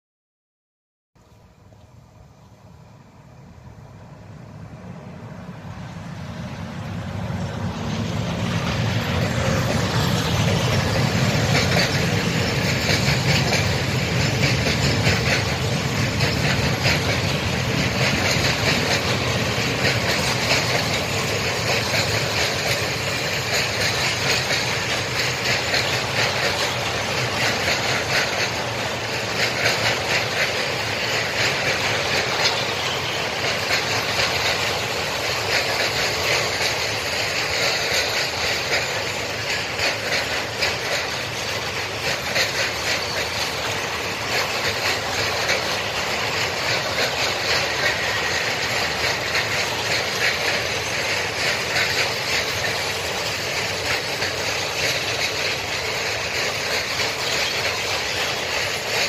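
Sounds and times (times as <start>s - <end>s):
electric locomotive passing: 1.2s - 59.0s
wheels clattering over rail joints: 6.0s - 59.0s.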